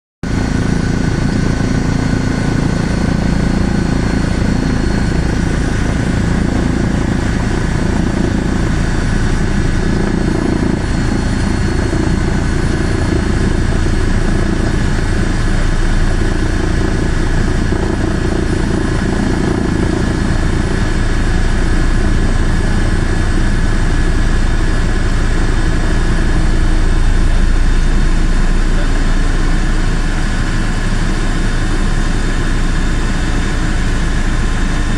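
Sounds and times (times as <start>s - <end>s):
aircraft engine drone: 0.2s - 34.9s.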